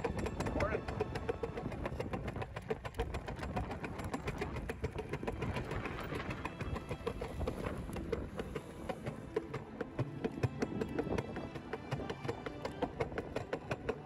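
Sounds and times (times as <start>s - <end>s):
cart wheels rumbling on concrete: 0.0s - 14.0s.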